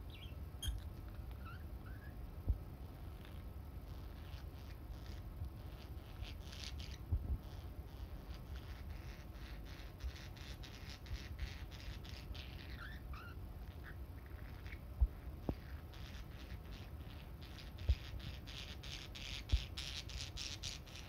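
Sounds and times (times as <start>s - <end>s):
small birds chirping: 0.0s - 2.3s, 2.9s - 21.0s.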